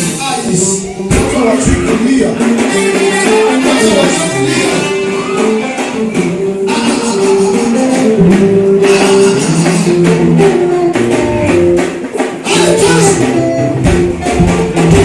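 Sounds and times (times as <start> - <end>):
gospel worship music: 0.0 - 15.0
guitar: 0.0 - 15.0.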